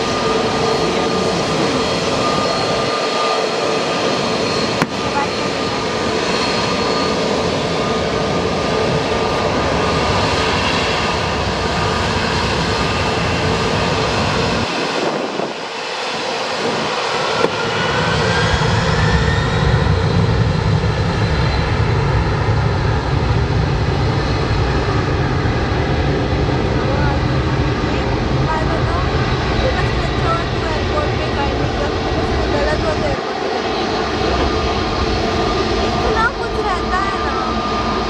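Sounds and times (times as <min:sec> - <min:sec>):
engine whine: 0:00.0 - 0:38.0
jet engines roaring: 0:00.0 - 0:38.0.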